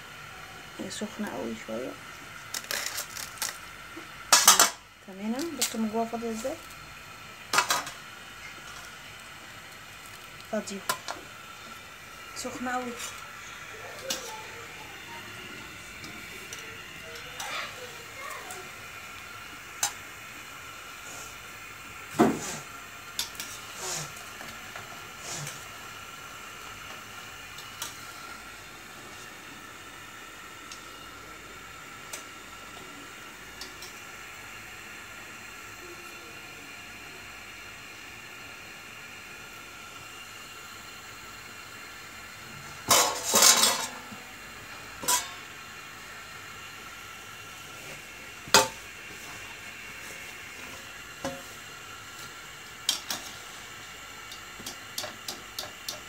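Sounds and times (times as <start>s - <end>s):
dough deep-frying in oil: 0.0s - 56.0s.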